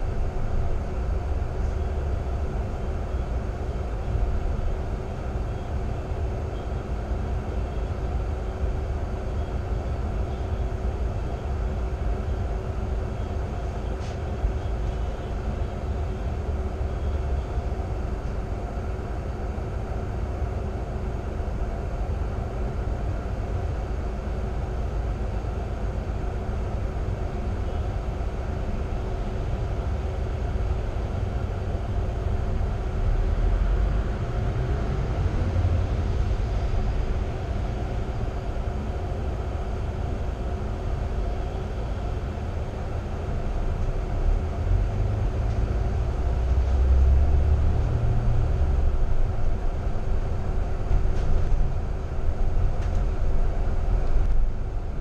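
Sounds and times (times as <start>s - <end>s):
bus diesel engine idling: 0.0s - 55.0s
faint steady hum: 0.0s - 55.0s.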